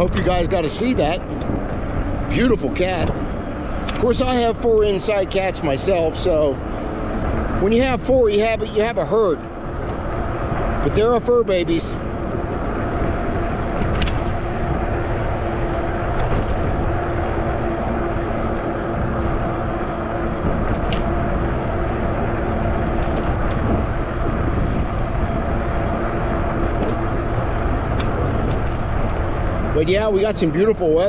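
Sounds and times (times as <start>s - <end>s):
electric bike hum: 0.0s - 31.0s
wind and road rumble: 0.0s - 31.0s.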